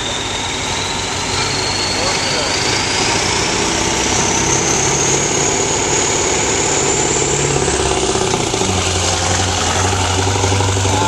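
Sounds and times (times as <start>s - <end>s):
diesel truck engine under load: 0.0s - 11.0s
high whine rising in pitch: 0.0s - 11.0s.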